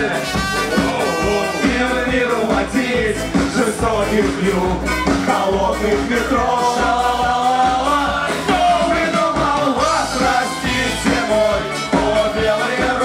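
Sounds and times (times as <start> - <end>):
bass: 0.0 - 13.0
drums keeping a steady beat: 0.0 - 13.0
electric guitars: 0.0 - 13.0.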